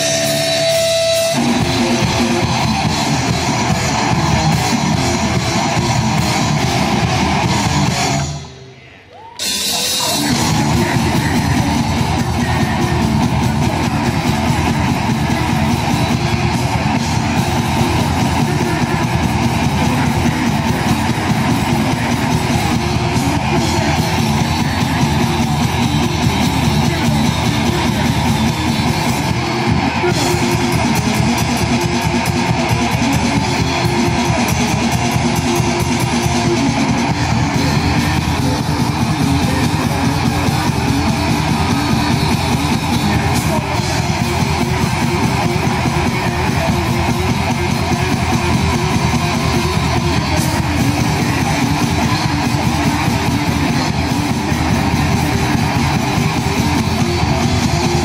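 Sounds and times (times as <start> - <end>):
bass guitar: 0.0 - 8.8, 9.4 - 58.0
distorted electric guitars: 0.0 - 58.0
drums: 0.0 - 58.0.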